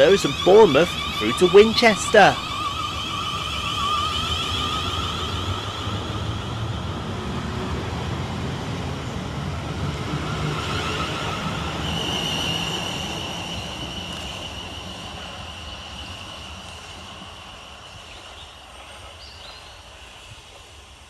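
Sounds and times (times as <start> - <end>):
electric train motor whine: 0.0 - 18.4
train wheels rumbling on rail: 0.0 - 21.0.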